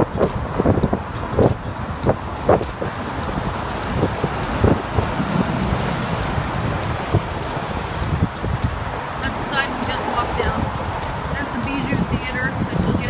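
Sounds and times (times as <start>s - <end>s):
cars passing: 0.0s - 13.0s
wind rumbling on microphone: 0.0s - 13.0s.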